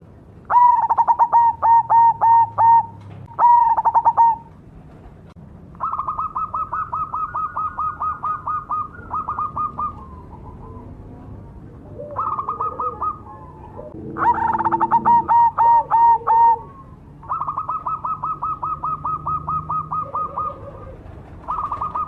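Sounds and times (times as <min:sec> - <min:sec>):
dove cooing song: 0:00.5 - 0:05.0, 0:05.8 - 0:22.0.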